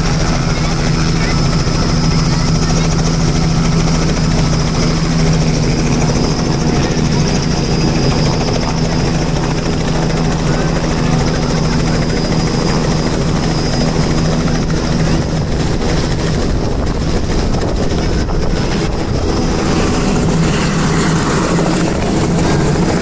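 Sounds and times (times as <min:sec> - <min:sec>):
helicopter rotor and turbine hum: 0:00.0 - 0:23.0.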